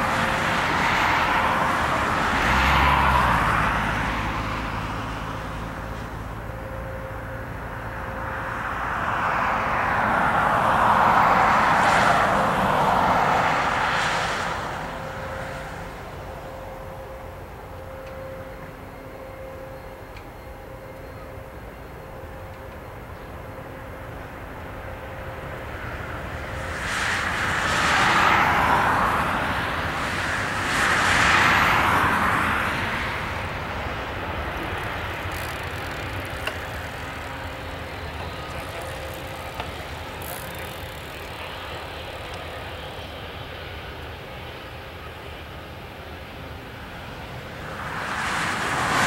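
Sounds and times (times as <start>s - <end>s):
jet engine reverse thrust roar: 0.0s - 49.0s.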